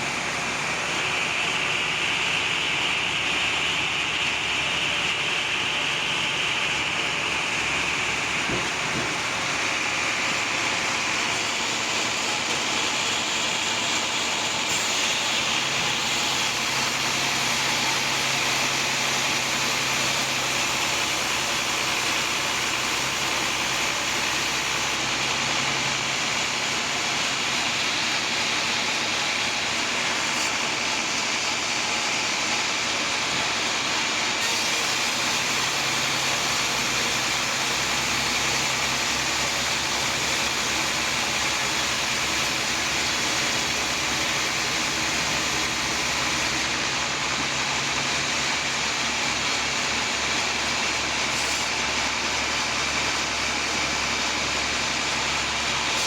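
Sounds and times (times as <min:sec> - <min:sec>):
sawmill saw cutting log: 0:00.0 - 0:56.0.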